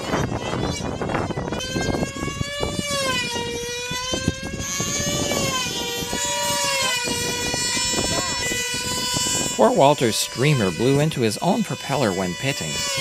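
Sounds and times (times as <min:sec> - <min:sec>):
model engines high-pitched whine: 0:00.0 - 0:13.0.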